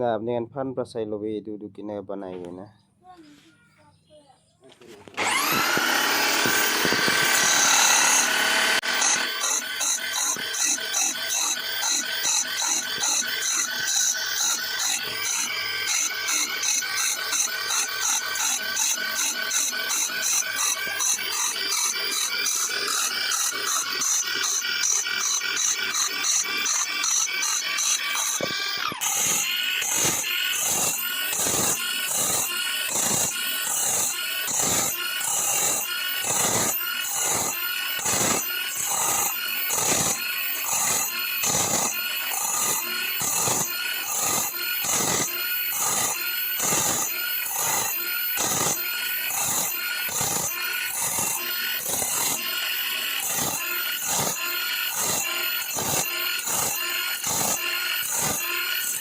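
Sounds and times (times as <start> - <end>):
grinding stone scraping blade: 4.8 - 59.0.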